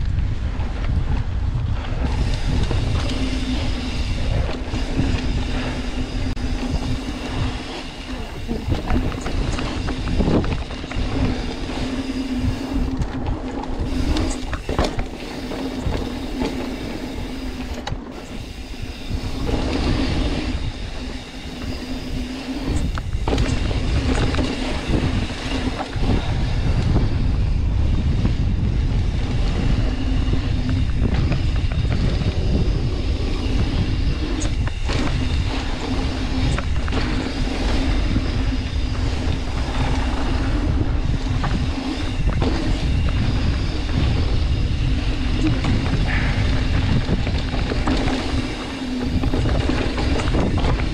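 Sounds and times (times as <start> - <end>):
bike rattling over bumps: 0.0 - 50.9
wind rumble on microphone: 0.0 - 50.9.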